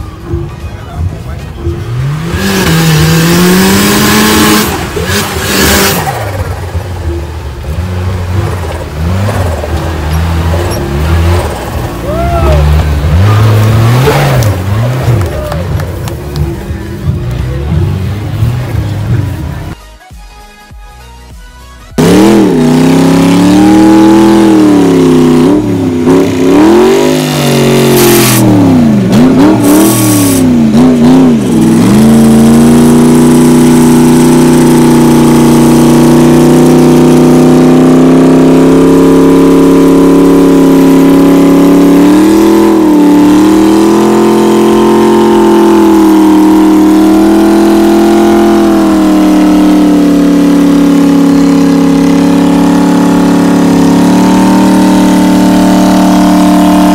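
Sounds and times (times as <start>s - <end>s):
off-road vehicle engine revving: 0.0s - 19.8s, 22.0s - 56.9s.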